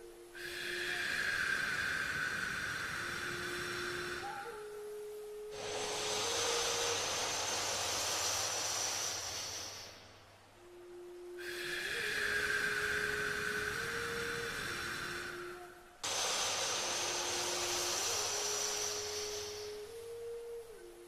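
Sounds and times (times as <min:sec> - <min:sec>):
soft steady tone: 0:00.0 - 0:21.0
person breathing through nose: 0:00.4 - 0:04.5, 0:05.5 - 0:10.2, 0:11.4 - 0:20.2.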